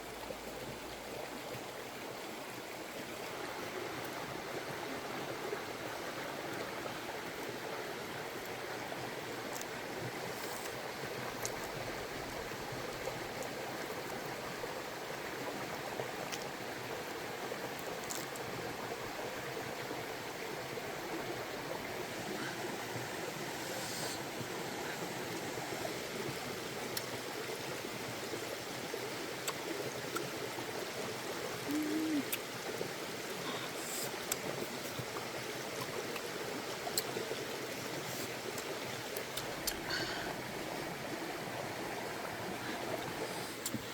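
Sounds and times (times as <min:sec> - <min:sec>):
flowing water: 0:00.0 - 0:43.9.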